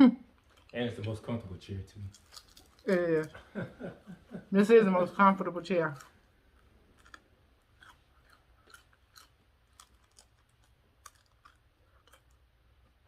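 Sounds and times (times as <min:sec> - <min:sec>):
chewing crispy chicken: 0:00.3 - 0:03.7, 0:05.8 - 0:13.0.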